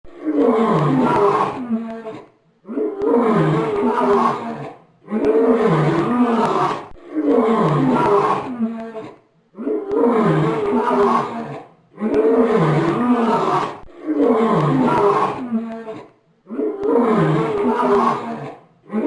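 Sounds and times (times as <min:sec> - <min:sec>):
bear growling: 0:00.1 - 0:19.0.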